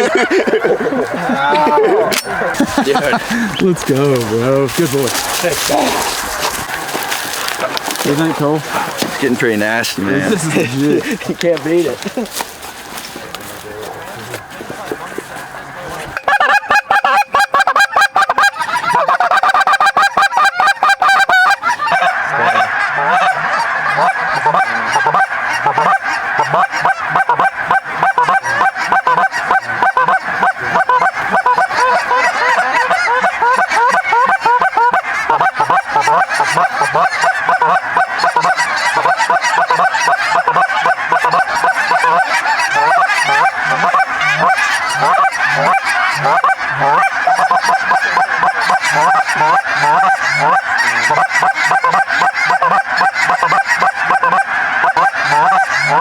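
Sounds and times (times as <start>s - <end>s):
geese honking: 0.0s - 56.0s.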